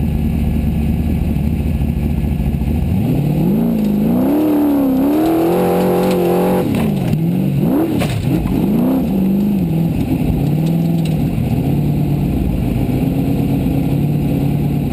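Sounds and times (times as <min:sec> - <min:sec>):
buggy engine revving: 0:00.0 - 0:14.9.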